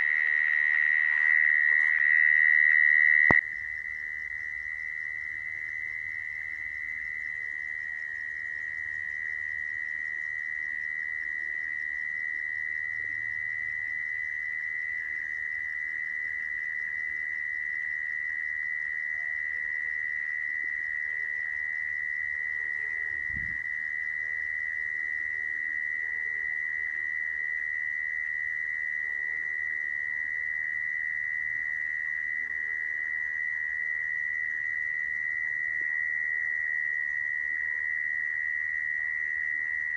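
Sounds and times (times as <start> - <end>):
mole cricket trill: 0.0 - 39.9.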